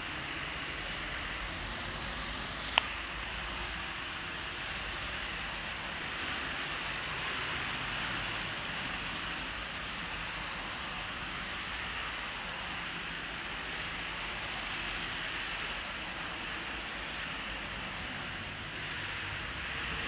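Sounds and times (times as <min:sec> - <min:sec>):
tyres hissing on wet street: 0:00.0 - 0:20.0.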